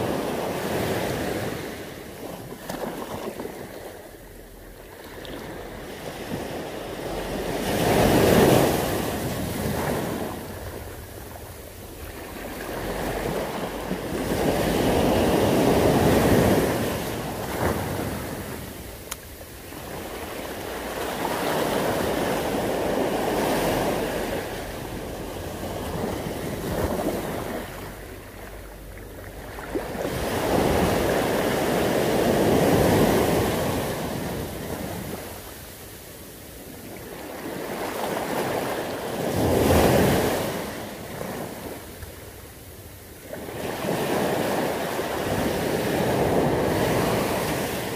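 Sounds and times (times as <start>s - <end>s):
waves washing over stony shore: 0.0s - 4.0s, 4.9s - 28.4s, 29.1s - 42.2s, 43.1s - 47.9s.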